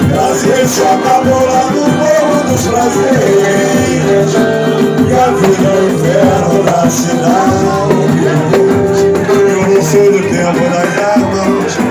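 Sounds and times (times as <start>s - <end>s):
people singing along: 0.0s - 11.9s
samba music with percussion: 0.0s - 11.9s.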